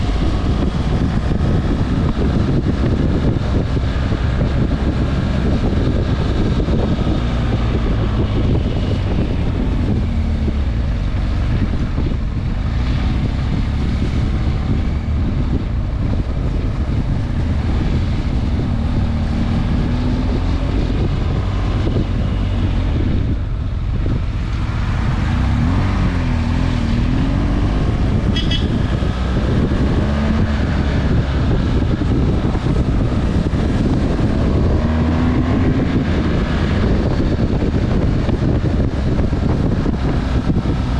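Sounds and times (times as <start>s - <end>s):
motorcycle engine revving: 0.0s - 40.9s
wind rumble on microphone: 0.0s - 40.9s.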